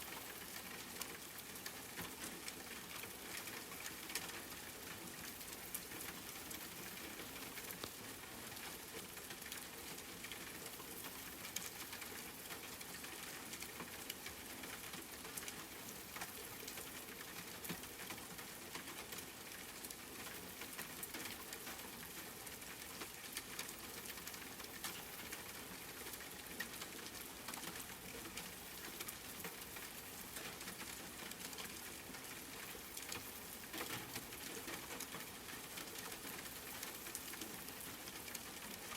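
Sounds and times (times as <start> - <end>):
raindrops tapping on a surface: 0.0 - 38.9
steady rain: 0.0 - 38.9.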